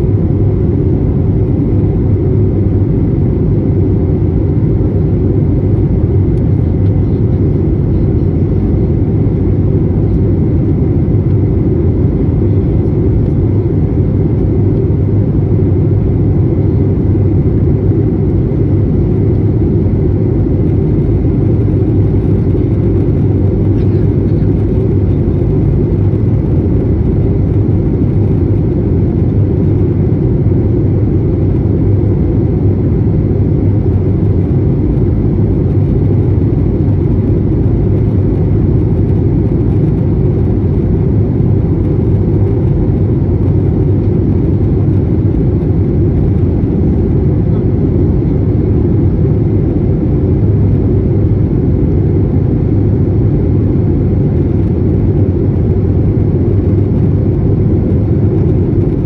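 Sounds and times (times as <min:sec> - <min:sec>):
air rushing past cabin: 0:00.0 - 0:59.0
jet engines rumbling: 0:00.0 - 0:59.0.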